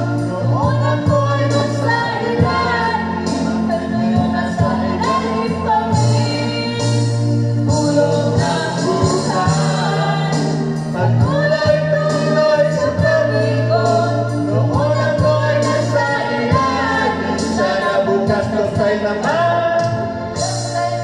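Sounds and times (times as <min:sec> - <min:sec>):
man singing into microphone: 0:00.0 - 0:06.9, 0:07.6 - 0:20.4
music backing track: 0:00.0 - 0:21.0
woman singing into microphone: 0:00.3 - 0:07.4, 0:08.0 - 0:18.2, 0:20.4 - 0:21.0.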